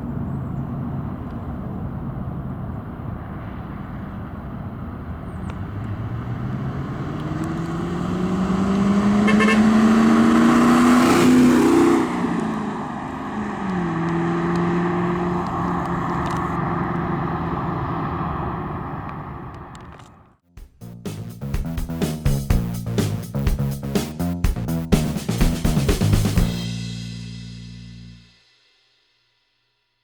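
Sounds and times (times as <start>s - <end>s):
car engine accelerating: 4.1s - 28.3s.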